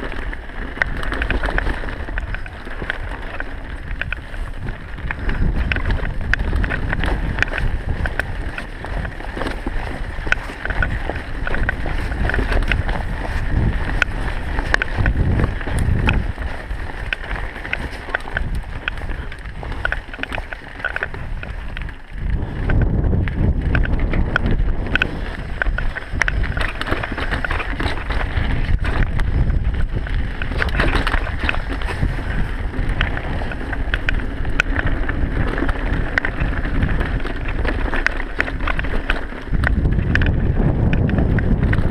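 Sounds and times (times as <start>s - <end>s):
bike clicking and rattling: 0.0s - 41.9s
tyres on dirt: 0.0s - 41.9s
wind buffeting microphone: 0.0s - 41.9s.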